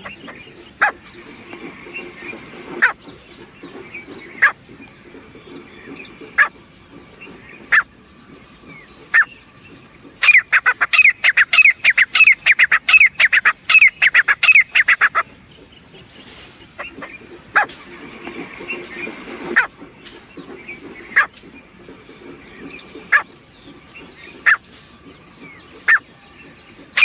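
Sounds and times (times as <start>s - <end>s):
francolin calling: 0.0s - 27.0s.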